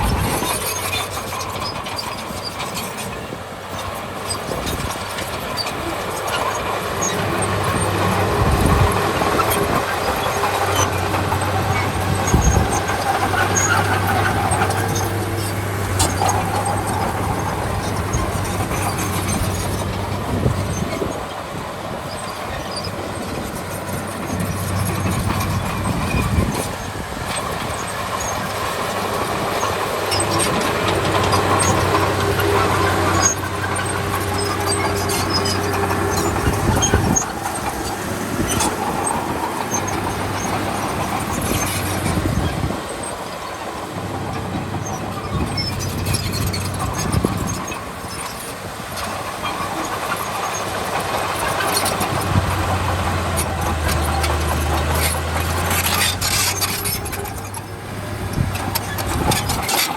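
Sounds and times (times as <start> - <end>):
bulldozer diesel engine hum: 0.0 - 59.9
steel tracks squealing and clanking: 0.0 - 59.9.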